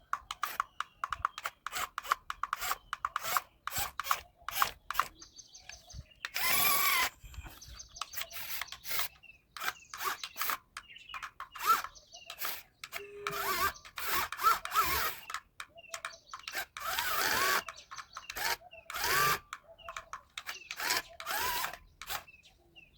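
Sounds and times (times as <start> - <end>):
small electric drill whining: 0.0 - 22.3.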